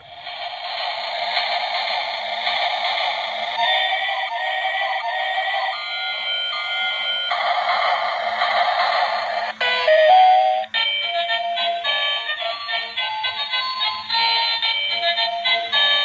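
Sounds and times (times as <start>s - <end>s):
toy train electronic tune: 0.0s - 16.0s.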